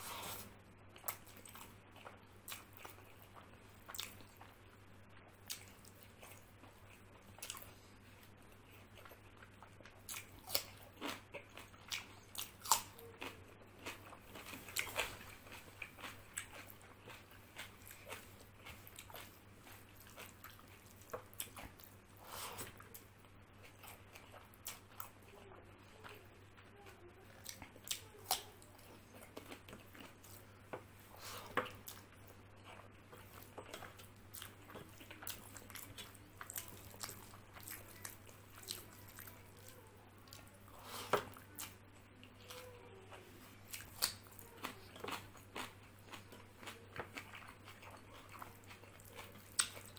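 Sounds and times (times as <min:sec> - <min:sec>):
person chewing and crunching: 0:00.0 - 0:26.2, 0:26.8 - 0:49.9.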